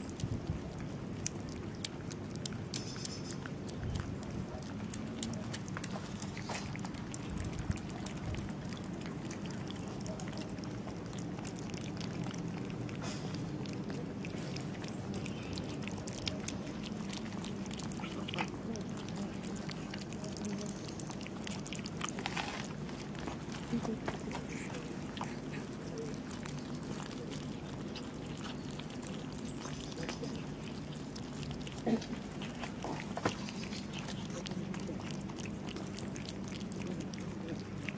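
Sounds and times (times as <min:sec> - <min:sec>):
cats chewing wet food: 0:00.0 - 0:37.9
low background hum: 0:00.0 - 0:37.9.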